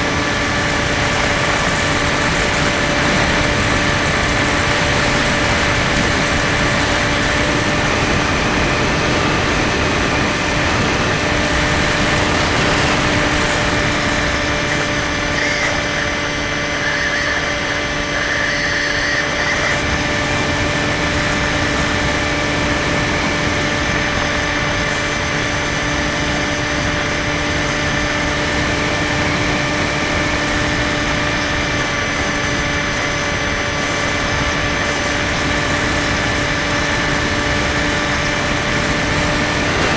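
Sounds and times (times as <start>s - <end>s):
electric motor and propeller running: 0.0s - 39.9s.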